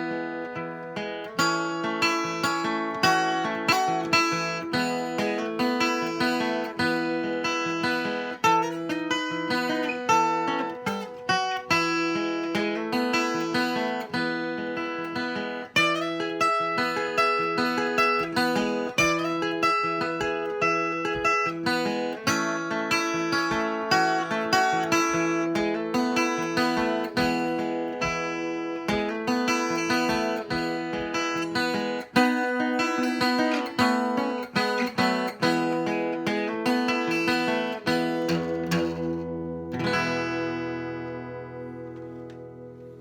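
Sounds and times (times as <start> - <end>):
acoustic guitar picking: 0.0 - 43.0.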